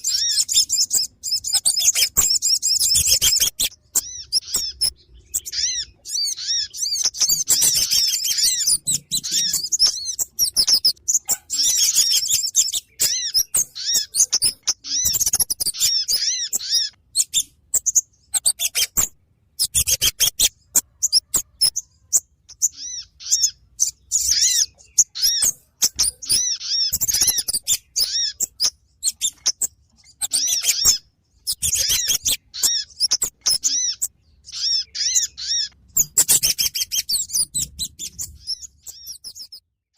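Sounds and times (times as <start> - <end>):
songbirds chirping: 0.0 - 39.7.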